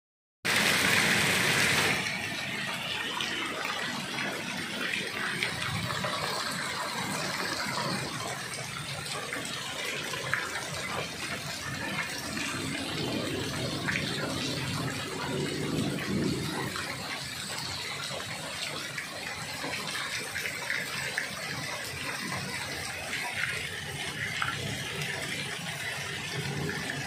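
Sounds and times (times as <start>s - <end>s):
hail and heavy rain pouring: 0.5s - 27.0s.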